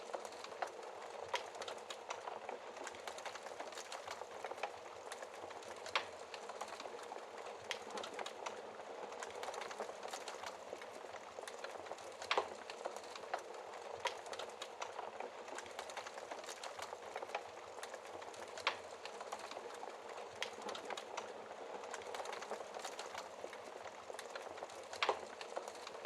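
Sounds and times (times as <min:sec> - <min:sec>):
wood fire crackling: 0:00.0 - 0:26.0
loud fire snaps: 0:00.1 - 0:26.0.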